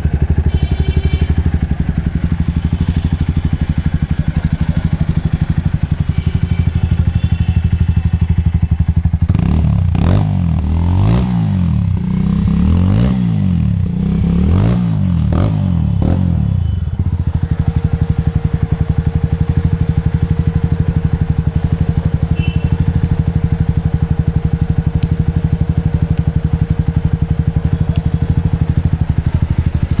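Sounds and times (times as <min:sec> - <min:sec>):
motorcycle idling and revving: 0:00.0 - 0:30.0.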